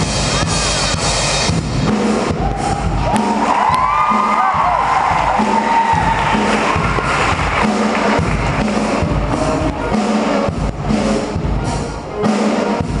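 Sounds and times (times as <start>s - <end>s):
cymbals: 0.0s - 13.0s.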